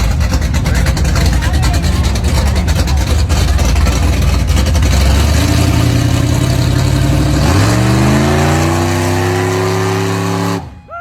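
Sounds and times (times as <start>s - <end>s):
car engine rumbling and revving: 0.0s - 10.9s.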